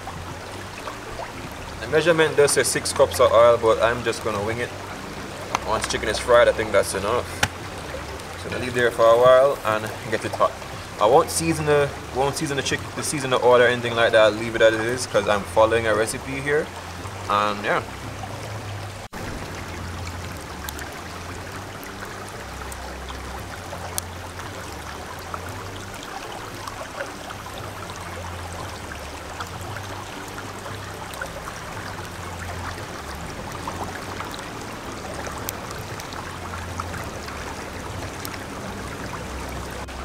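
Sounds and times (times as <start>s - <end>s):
wood fire crackling: 0.0s - 16.6s, 19.0s - 40.0s
river flowing: 0.0s - 40.0s.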